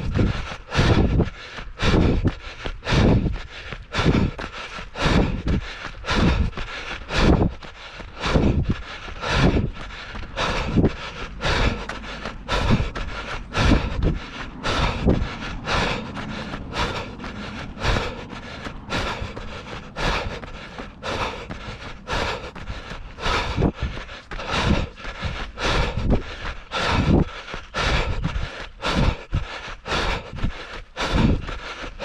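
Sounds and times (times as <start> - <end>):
wind noise on microphone: 0.0 - 31.6
footsteps on dirt trail: 0.0 - 32.0.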